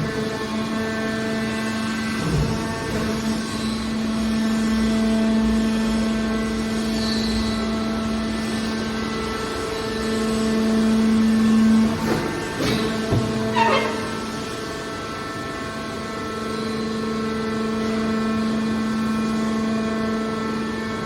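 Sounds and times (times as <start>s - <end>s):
hydraulic power unit humming: 0.0s - 21.0s.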